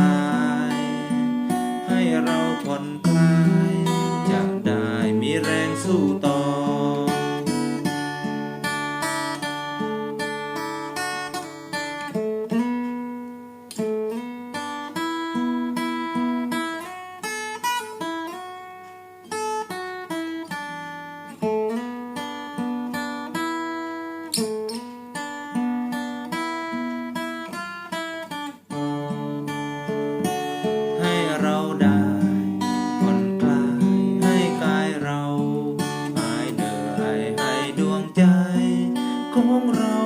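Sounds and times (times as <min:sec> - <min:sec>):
acoustic guitar melody: 0:00.0 - 0:40.0.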